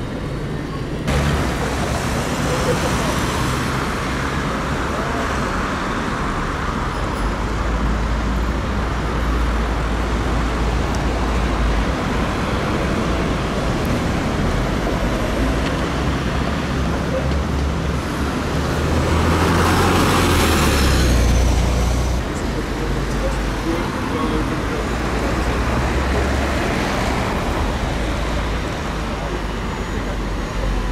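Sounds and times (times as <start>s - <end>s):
bus engine rumble: 0.0s - 30.9s.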